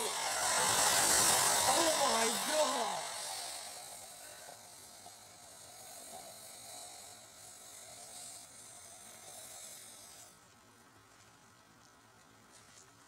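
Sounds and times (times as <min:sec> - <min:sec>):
faint hiss of smouldering fuel: 0:00.0 - 0:13.0.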